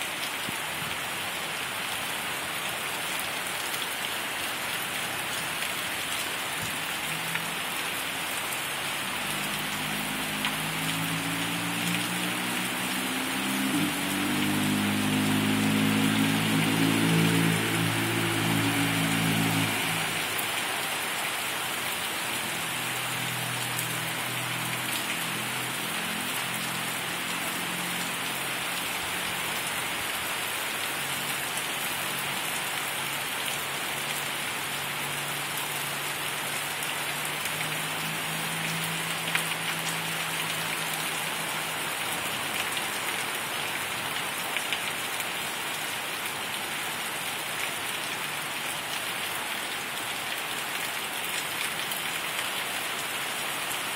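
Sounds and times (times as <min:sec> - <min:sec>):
heavy rain pouring: 0:00.0 - 0:53.9
car driving through floodwater: 0:00.4 - 0:53.9.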